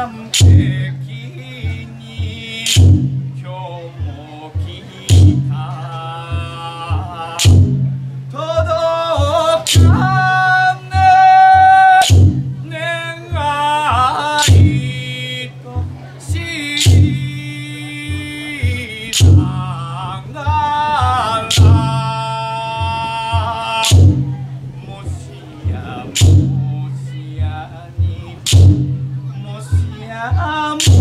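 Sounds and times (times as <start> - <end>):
man singing long wavering notes: 0.0 - 7.5, 8.3 - 28.5.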